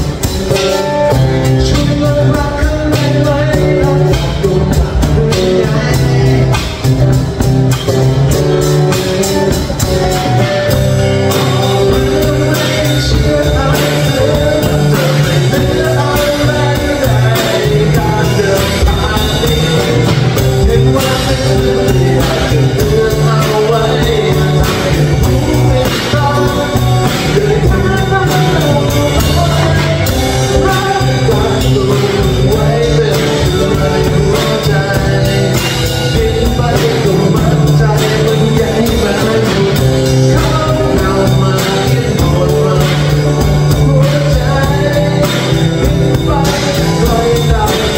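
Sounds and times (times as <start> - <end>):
man singing into a microphone: 0.0 - 7.4, 8.0 - 47.9
acoustic guitars: 0.0 - 47.9
drum kit: 0.0 - 47.9.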